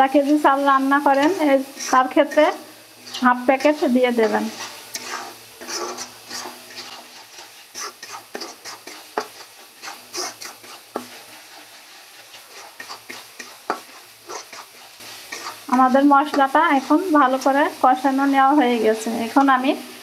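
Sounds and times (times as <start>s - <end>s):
faint sizzle: 0.0s - 20.0s
metal spatula scraping pan: 1.0s - 17.6s.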